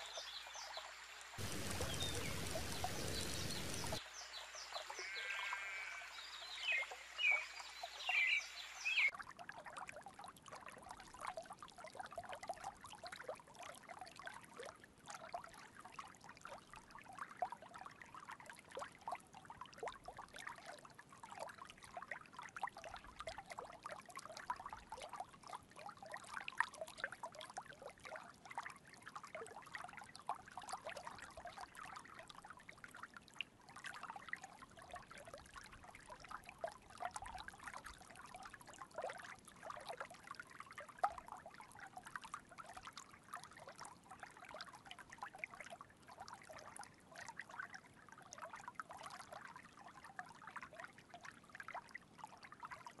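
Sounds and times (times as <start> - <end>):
water trickling and babbling: 0.0 - 53.0.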